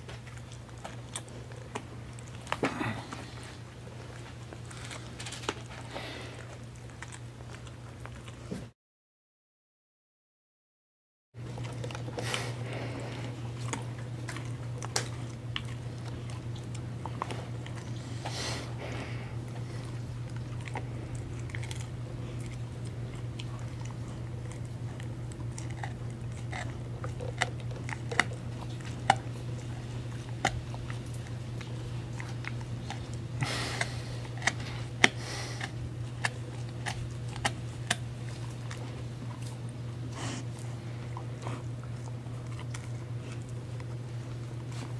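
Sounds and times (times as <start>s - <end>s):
dog gnawing chew treat: 0.0s - 8.7s, 11.4s - 44.9s.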